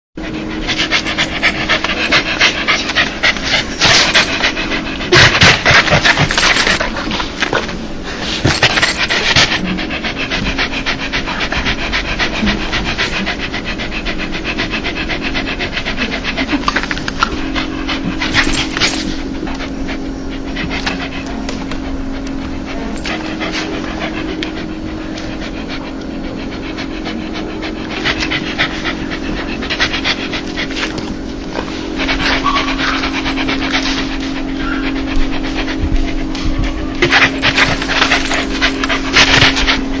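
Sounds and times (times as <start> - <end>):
dog panting rapidly: 0.2 - 40.0.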